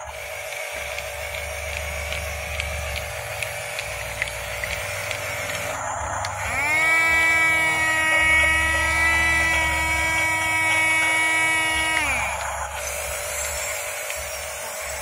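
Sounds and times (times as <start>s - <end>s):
faint regular ticking: 0.0s - 15.0s
toy electric motors whining: 0.0s - 15.0s.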